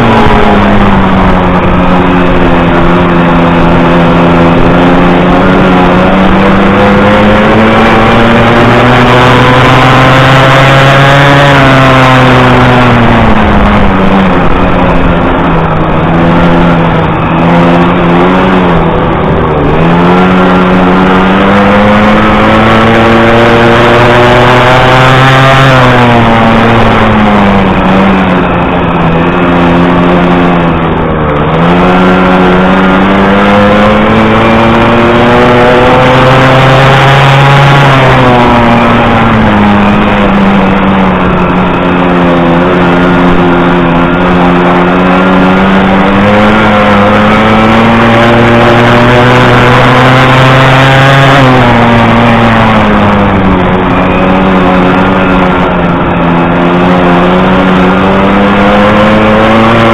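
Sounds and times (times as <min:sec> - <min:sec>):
two-stroke motorcycle engine racing: 0:00.0 - 0:59.9.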